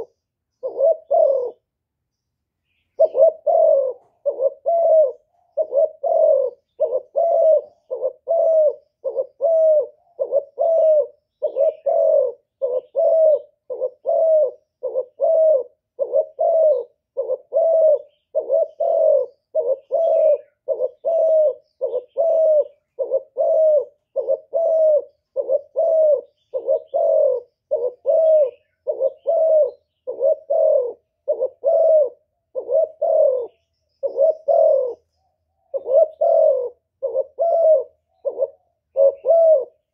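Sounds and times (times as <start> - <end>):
dove cooing: 0.0 - 1.7, 2.7 - 39.9.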